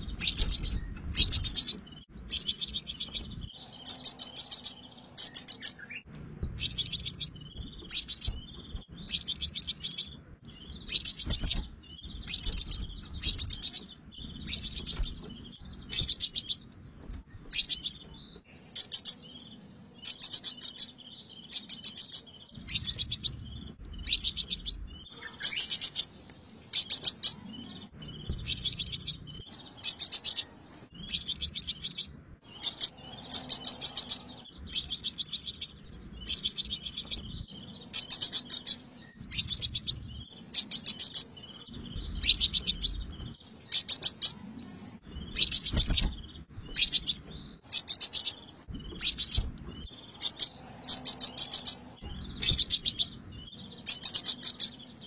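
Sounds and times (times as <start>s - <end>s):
sunbird twittering song: 0.0s - 55.0s.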